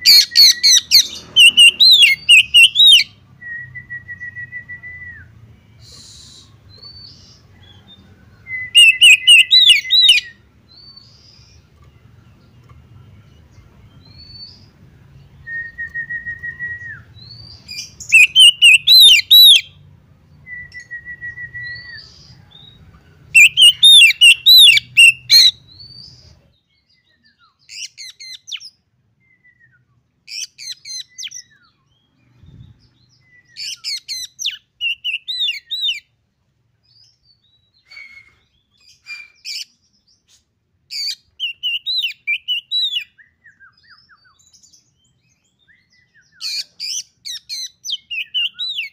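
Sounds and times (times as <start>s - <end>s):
bird singing: 0.0s - 36.2s, 36.8s - 48.9s.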